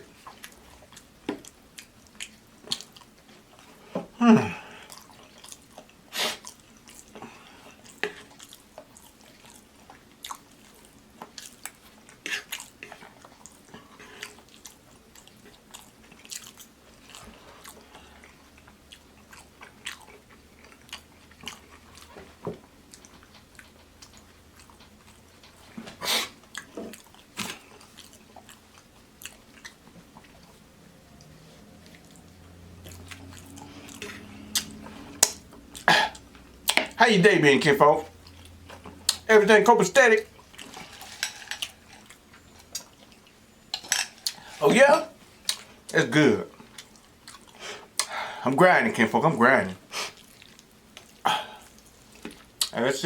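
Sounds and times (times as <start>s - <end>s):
wet chewing: 0.1s - 3.8s, 4.6s - 37.0s, 38.0s - 44.6s, 45.3s - 45.9s, 46.5s - 48.2s, 49.9s - 52.8s.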